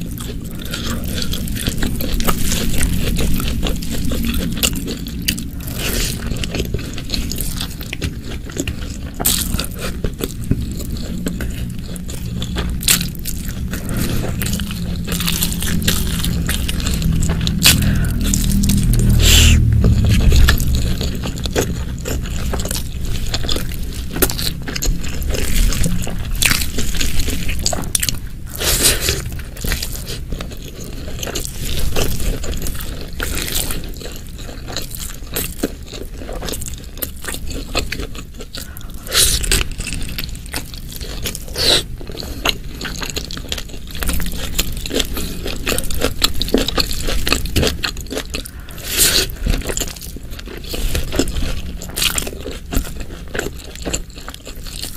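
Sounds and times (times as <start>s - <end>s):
chewing and crunching food: 0.0s - 54.9s.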